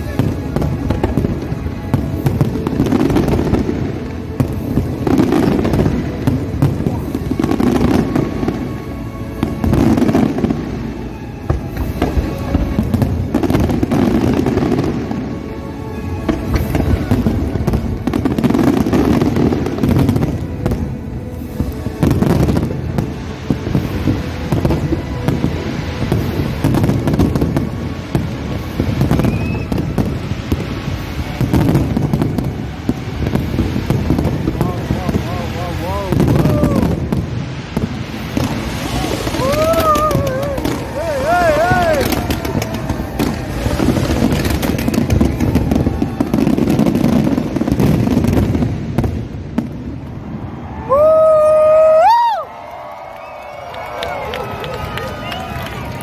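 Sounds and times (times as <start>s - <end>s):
fireworks booming and crackling: 0.0s - 56.0s.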